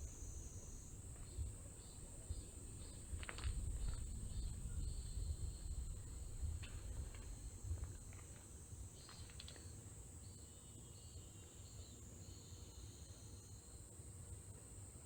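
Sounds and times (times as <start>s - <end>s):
crickets trilling: 0.0s - 13.8s.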